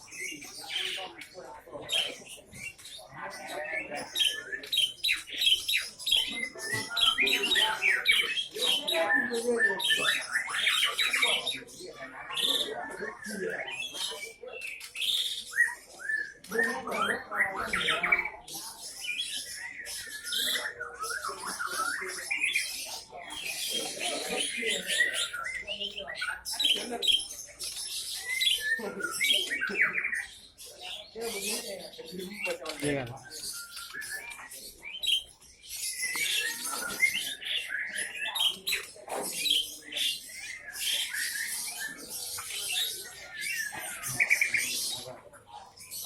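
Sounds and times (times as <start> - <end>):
songbirds chirping and whistling: 0.0 - 46.0.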